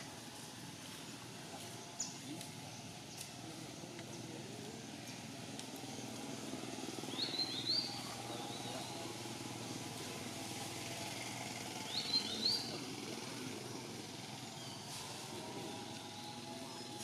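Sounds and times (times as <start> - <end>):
outdoor ambience among trees: 0.0 - 17.0.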